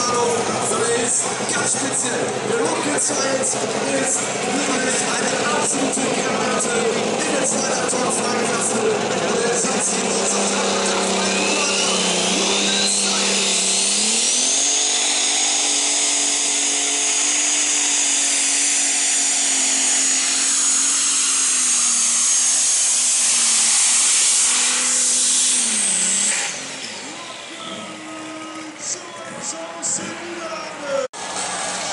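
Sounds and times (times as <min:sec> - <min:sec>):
high whine: 0:00.0 - 0:31.9
tractor engine running flat out: 0:00.0 - 0:31.9.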